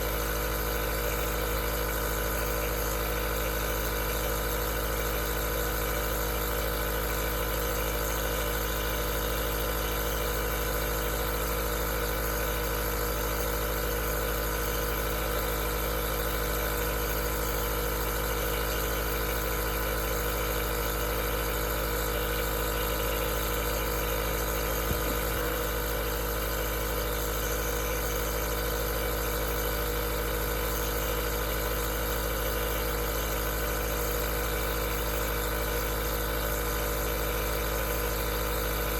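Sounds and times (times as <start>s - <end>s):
nebulizer machine hum: 0.0s - 38.9s.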